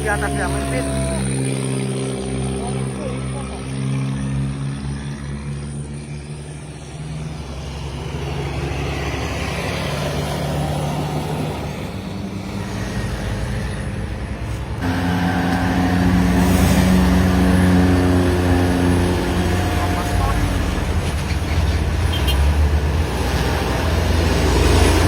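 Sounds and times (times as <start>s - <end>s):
truck diesel engines under load: 0.0s - 25.0s.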